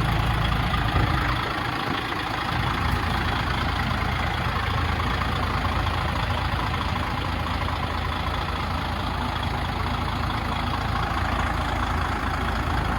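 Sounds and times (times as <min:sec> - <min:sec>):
truck diesel engine idling: 0:00.0 - 0:12.9.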